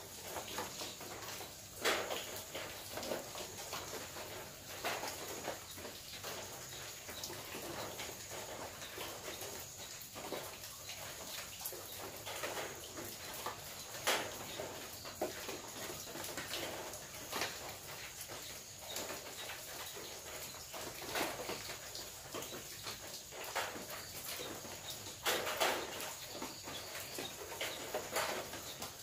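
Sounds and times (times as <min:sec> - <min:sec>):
rain dripping on a metal roof: 0:00.0 - 0:29.0.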